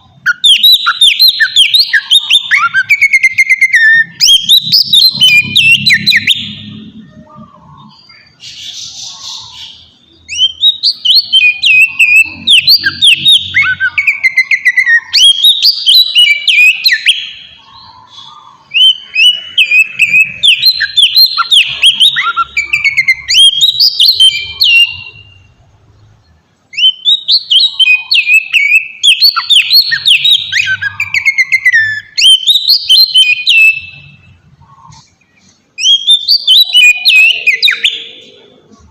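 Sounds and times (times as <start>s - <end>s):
bird singing whistled phrases: 0.1s - 25.5s, 26.7s - 34.3s, 35.8s - 38.5s.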